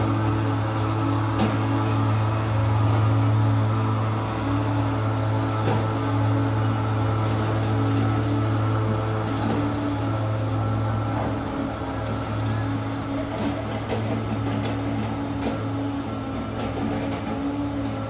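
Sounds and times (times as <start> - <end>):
diesel machinery running: 0.0 - 18.0.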